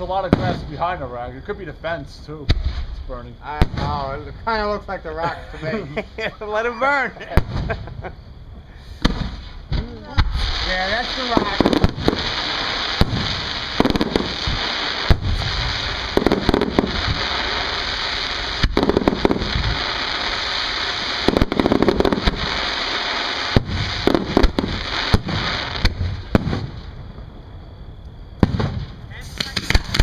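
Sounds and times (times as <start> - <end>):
fireworks bursting with bangs: 0.0 - 27.6, 28.2 - 30.0.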